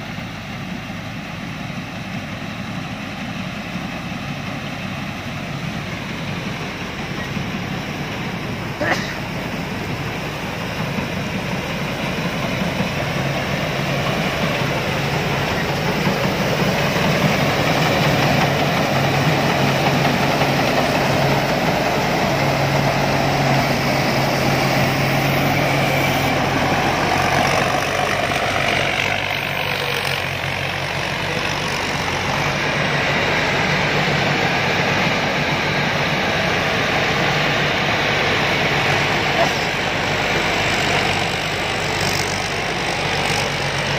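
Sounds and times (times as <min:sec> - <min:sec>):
combine harvester engine running: 0:00.0 - 0:43.9.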